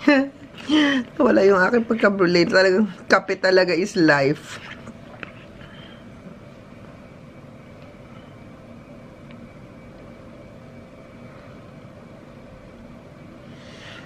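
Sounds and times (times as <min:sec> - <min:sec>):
low background hum and hiss: 0:00.0 - 0:14.0.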